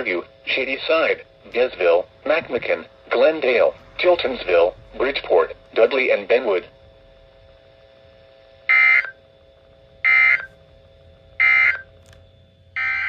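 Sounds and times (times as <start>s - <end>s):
buzzy digital data bursts: 0.0s - 11.9s.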